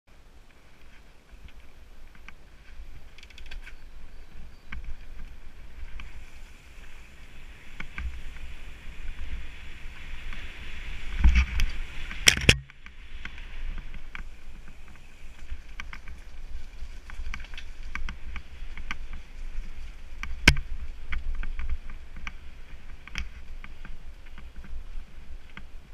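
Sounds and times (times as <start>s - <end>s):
bike rattling clicks: 1.4s - 25.8s
wind on microphone: 1.4s - 25.9s.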